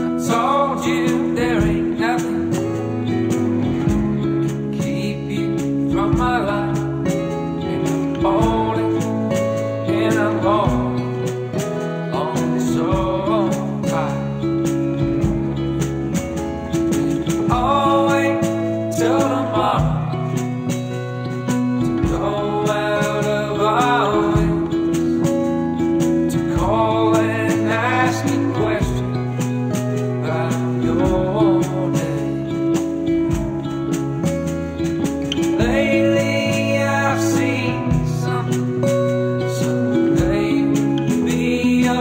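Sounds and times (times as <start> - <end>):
band playing a song: 0.0 - 42.0
bass: 0.0 - 42.0
drums: 0.0 - 42.0
guitar: 0.0 - 42.0.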